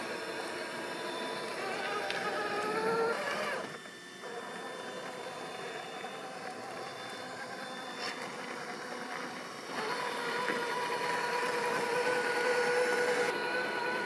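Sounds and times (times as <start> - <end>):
toy car motor whining: 0.0 - 14.0.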